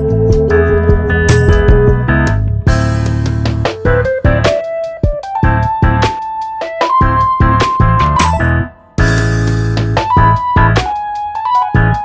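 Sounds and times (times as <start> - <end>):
light regular beat: 0.0 - 12.0
melody of held notes: 0.0 - 12.0.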